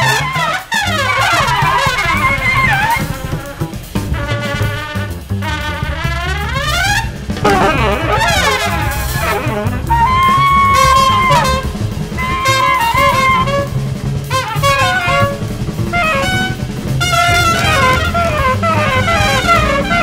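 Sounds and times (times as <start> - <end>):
alto saxophone: 0.0 - 20.0
drum kit: 0.0 - 20.0
trumpet: 0.0 - 20.0.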